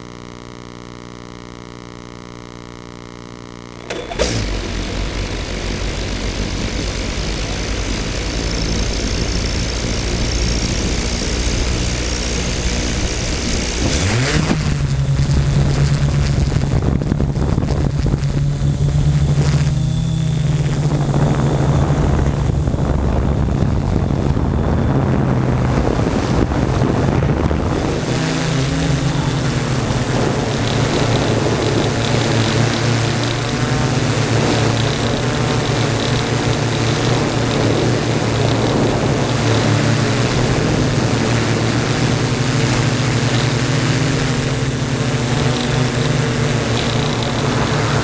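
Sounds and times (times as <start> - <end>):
drone propellers buzzing: 0.0 - 48.0.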